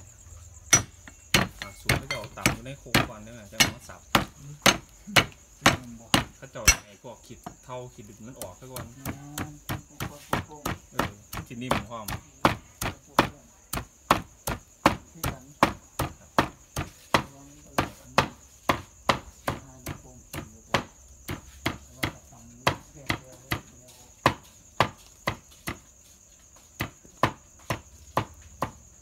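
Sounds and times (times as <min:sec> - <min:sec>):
crickets trilling: 0:00.0 - 0:29.0
cleaver chopping on wooden block: 0:00.6 - 0:07.6, 0:08.4 - 0:25.9, 0:26.8 - 0:28.9.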